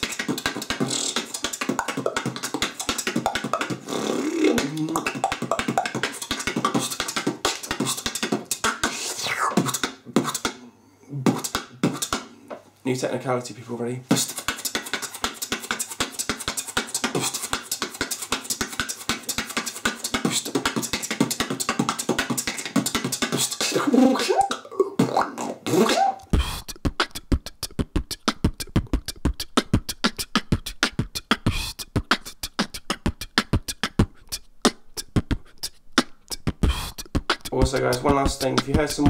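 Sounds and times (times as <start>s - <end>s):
beatboxing: 0.0s - 12.6s, 14.0s - 39.0s.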